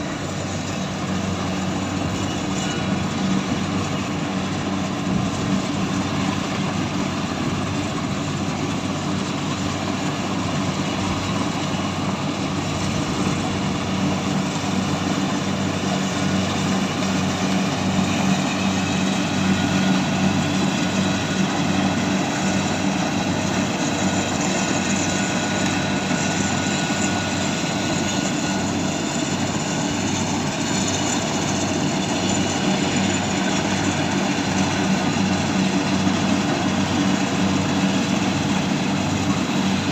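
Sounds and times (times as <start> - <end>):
harvesting machine engine droning: 0.0 - 39.9.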